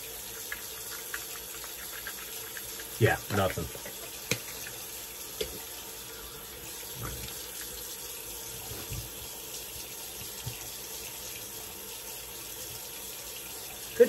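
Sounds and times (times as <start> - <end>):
water running from sink tap: 0.0 - 14.0.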